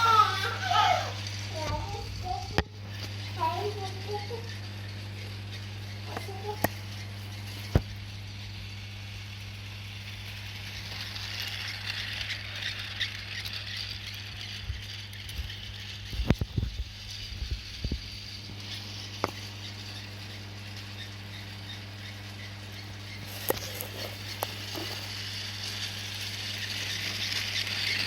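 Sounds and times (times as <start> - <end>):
toy train motor hum: 0.0 - 28.0.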